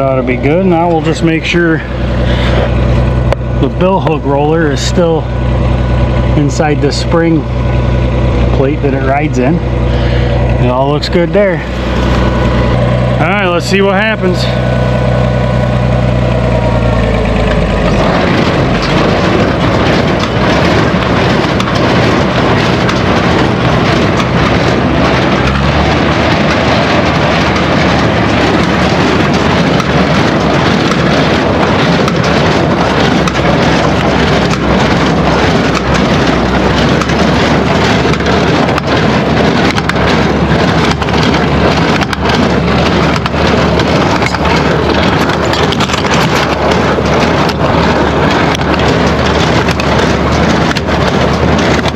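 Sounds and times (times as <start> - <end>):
tractor engine hum: 0.0 - 51.9.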